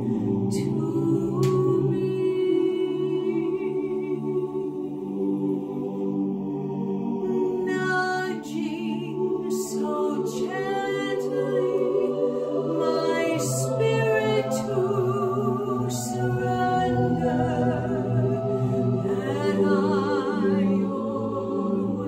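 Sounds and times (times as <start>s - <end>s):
held backing chords: 0.0s - 8.4s, 9.0s - 22.0s
woman singing worship song: 0.0s - 22.0s.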